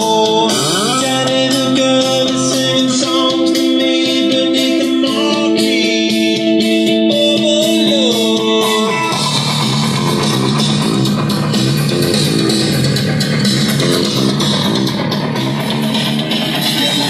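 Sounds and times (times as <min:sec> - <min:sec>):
guitar music from speaker: 0:00.0 - 0:17.0.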